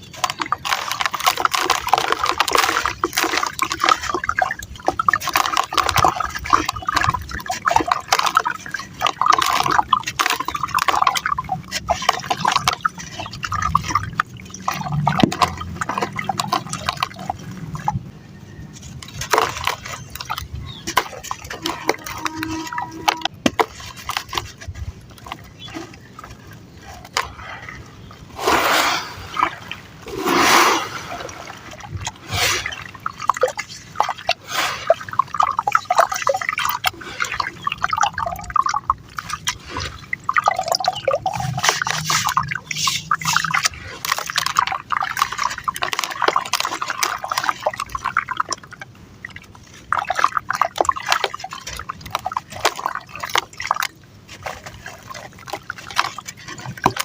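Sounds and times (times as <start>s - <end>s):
sand and cement crumbling in water: 0.0s - 57.0s
water splashes: 0.0s - 57.0s.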